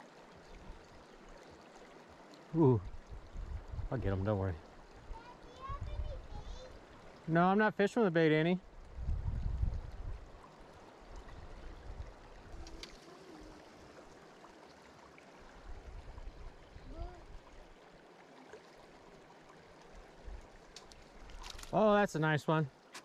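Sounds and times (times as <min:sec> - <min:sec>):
creek flowing over gravel: 0:00.0 - 0:23.0.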